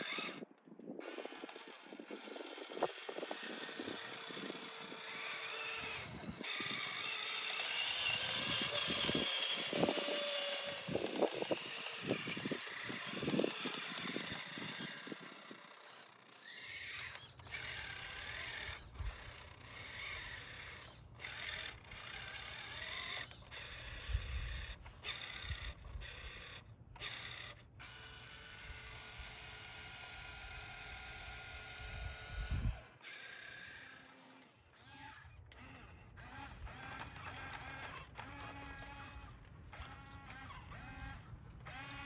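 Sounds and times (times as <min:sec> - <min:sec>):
low hum with sharp ticks: 0:00.0 - 0:42.0
small electric motors whirring: 0:00.0 - 0:42.0.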